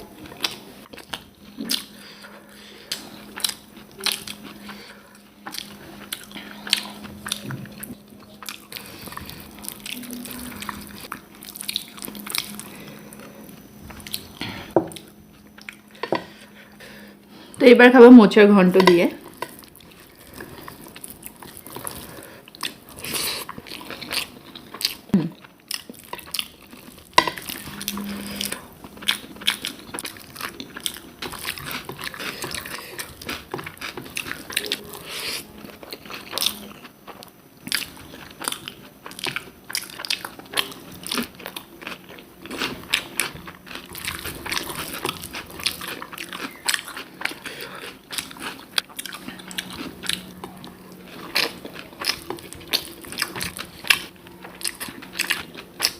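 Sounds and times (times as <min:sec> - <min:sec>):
person chewing food: 0:00.0 - 0:17.6, 0:19.2 - 0:55.9.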